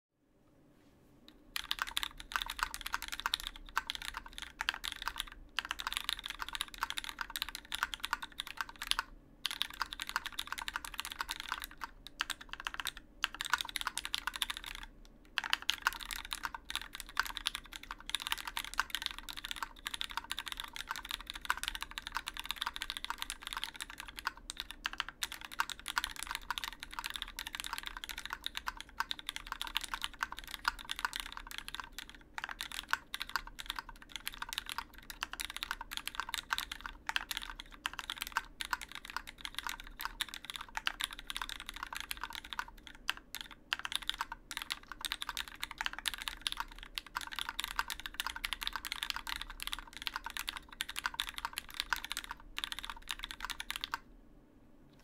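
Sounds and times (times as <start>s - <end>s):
mechanical keyboard typing: 1.6s - 54.0s.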